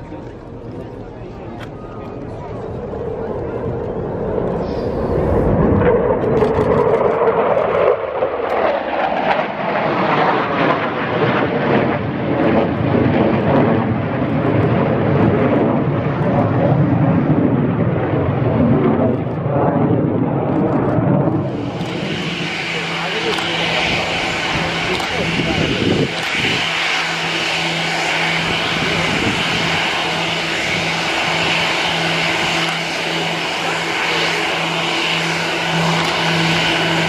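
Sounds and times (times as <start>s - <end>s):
aircraft engine passing: 0.0s - 37.0s.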